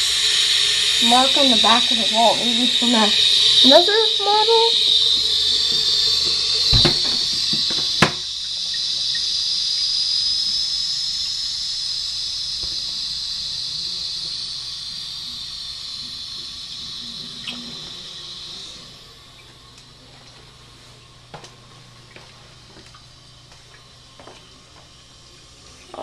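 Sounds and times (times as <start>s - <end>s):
toilet tank refilling hiss: 0.0s - 26.0s.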